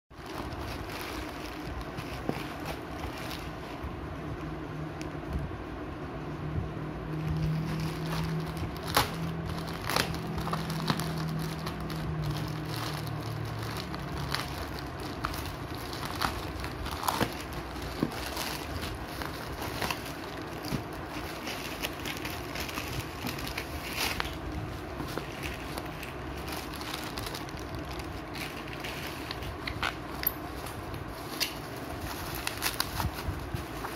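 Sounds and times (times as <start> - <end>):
low steady hum: 0.1 - 33.9
plastic bag crinkling and tearing: 0.2 - 3.8, 7.3 - 33.9.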